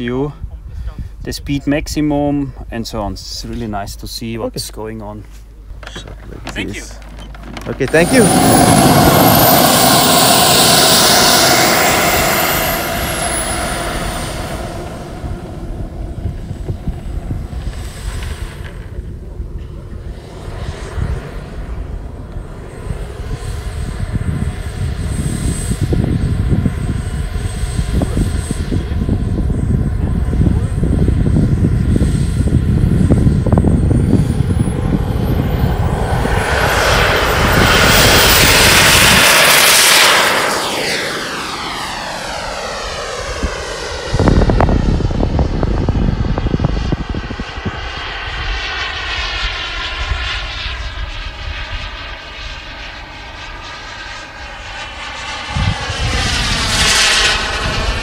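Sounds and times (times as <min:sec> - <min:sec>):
model jet turbine whine: 0:05.6 - 0:58.0.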